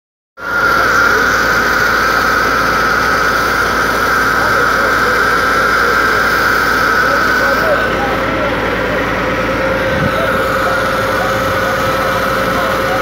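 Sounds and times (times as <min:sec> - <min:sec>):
fire engine engine rumbling: 0:00.4 - 0:13.0
fire engine pump whining: 0:00.4 - 0:13.0.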